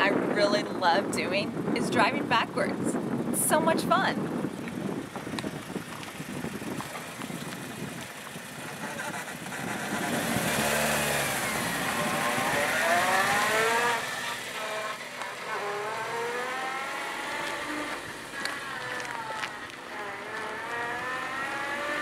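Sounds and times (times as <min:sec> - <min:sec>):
car engine reversing: 0:04.2 - 0:22.0.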